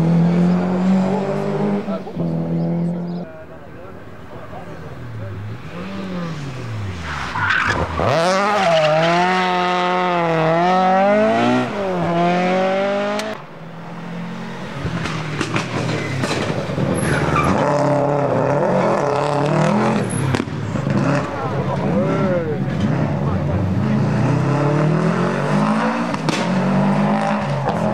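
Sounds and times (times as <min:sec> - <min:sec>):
rally car engines revving: 0:00.0 - 0:27.9.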